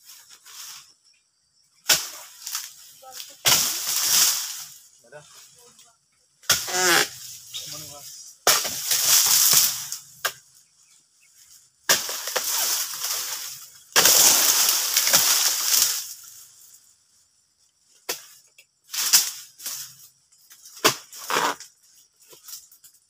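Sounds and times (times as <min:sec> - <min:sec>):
palm fronds rustling and crashing: 0:01.8 - 0:05.8, 0:06.4 - 0:10.5, 0:11.4 - 0:16.8, 0:18.0 - 0:23.0.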